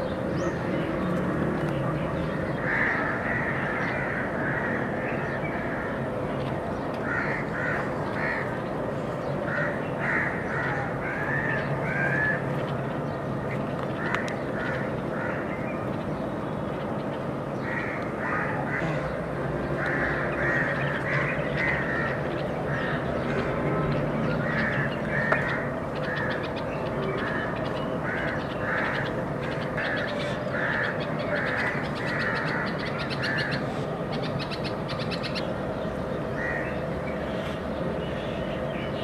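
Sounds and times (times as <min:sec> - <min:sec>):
birds calling: 0:00.0 - 0:39.0.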